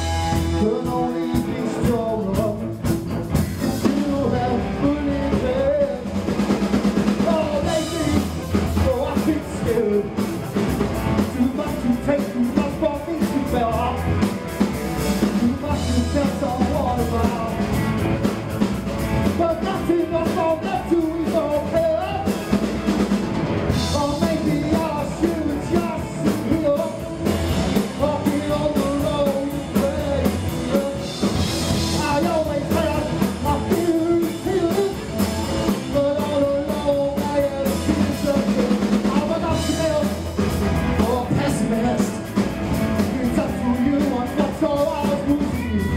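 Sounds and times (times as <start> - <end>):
man singing: 0.0 - 18.3, 19.2 - 23.0, 23.7 - 45.9
drum kit: 0.0 - 45.9
electric guitar: 0.0 - 45.9.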